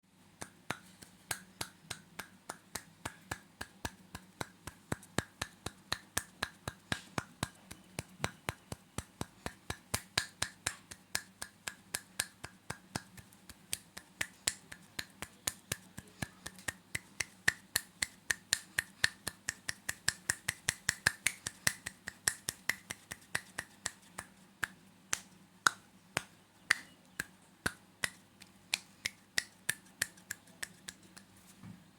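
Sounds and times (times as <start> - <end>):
faint steady hum: 0.1 - 31.9.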